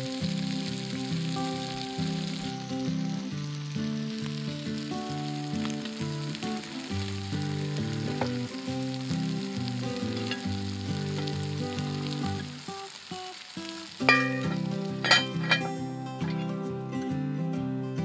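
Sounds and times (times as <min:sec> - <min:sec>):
onions and meat sizzling in a pot: 0:00.0 - 0:18.0.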